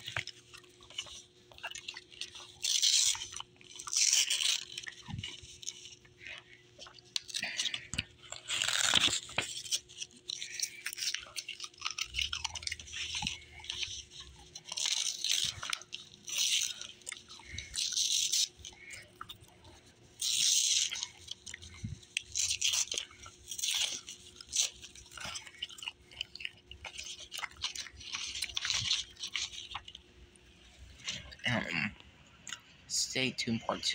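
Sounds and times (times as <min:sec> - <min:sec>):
paper ripping and crinkling: 0:00.0 - 0:30.0.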